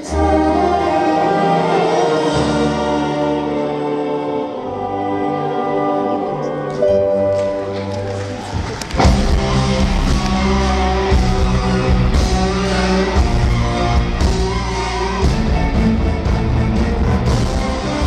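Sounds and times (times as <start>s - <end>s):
live rock band with orchestra: 0.0s - 5.6s, 6.7s - 18.0s.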